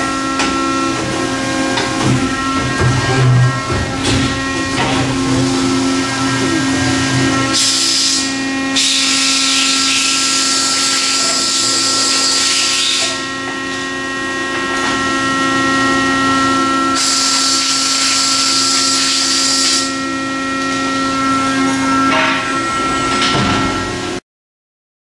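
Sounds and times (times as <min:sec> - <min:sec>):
hydraulic pump hum: 0:00.0 - 0:24.2.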